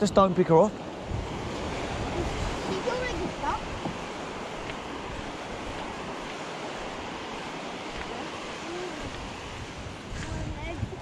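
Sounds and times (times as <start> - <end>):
gentle surf on sand: 0.0 - 11.0
wind on microphone: 0.0 - 11.0.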